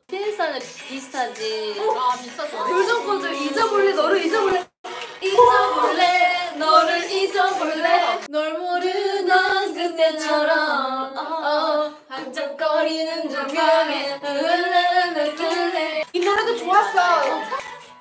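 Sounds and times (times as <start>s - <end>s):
women singing pop melody: 0.2s - 18.0s.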